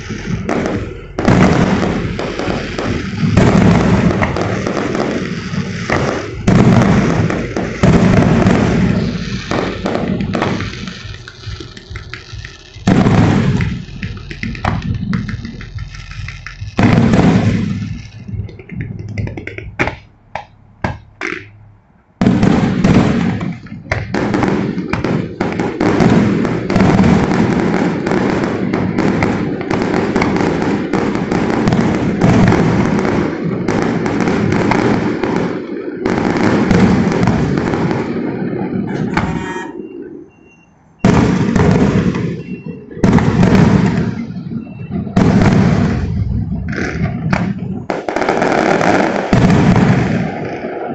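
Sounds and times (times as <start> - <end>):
fireworks bangs and crackle: 0.0 - 50.9.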